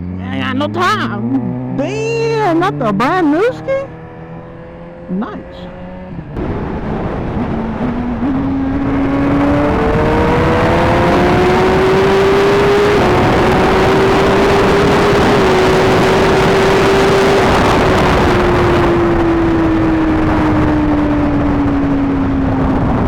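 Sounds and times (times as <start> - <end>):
motorcycle engine accelerating: 0.0 - 23.0
wind rushing on microphone: 0.4 - 23.0.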